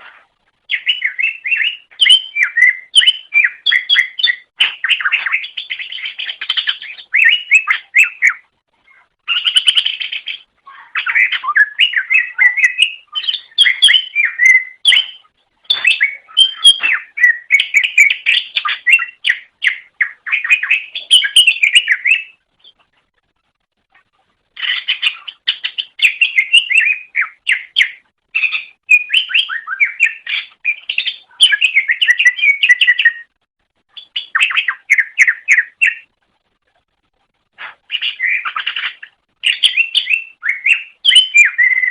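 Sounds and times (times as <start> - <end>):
bird singing rapid chirps: 0.0 - 23.0, 24.6 - 36.2, 37.6 - 41.9.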